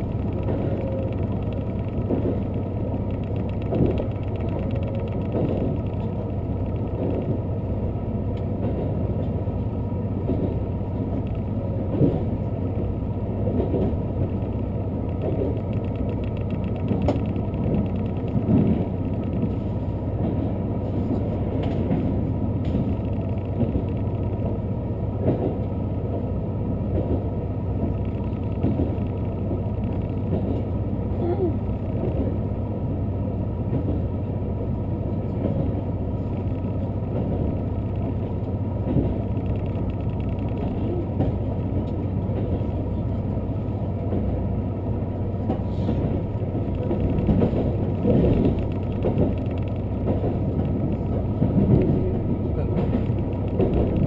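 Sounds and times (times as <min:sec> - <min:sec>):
train cabin rumble: 0:00.0 - 0:54.0.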